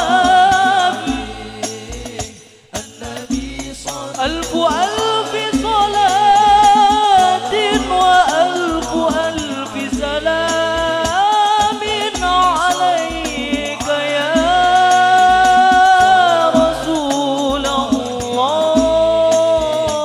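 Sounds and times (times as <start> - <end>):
frame drums: 0.0 - 20.0
man singing devotional verses: 0.0 - 20.0.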